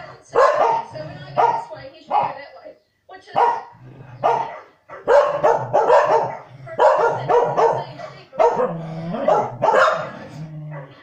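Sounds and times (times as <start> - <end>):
dogs barking: 0.0 - 2.4, 3.3 - 11.0.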